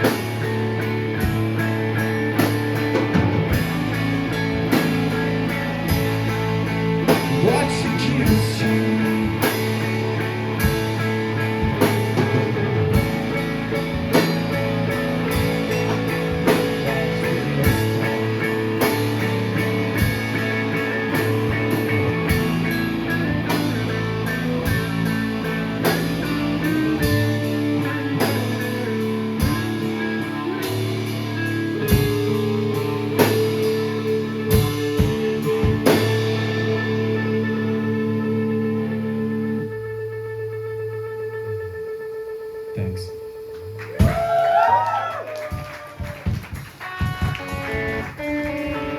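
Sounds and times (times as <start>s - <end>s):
drum kit: 0.0s - 39.3s, 42.9s - 48.9s
sustained electric guitar chords: 0.0s - 44.5s, 46.3s - 48.9s
deep bass: 0.0s - 45.0s.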